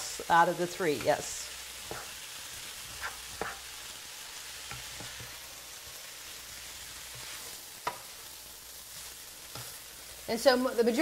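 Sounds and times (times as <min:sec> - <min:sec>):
meat mixture sizzling in skillet: 0:00.0 - 0:11.0.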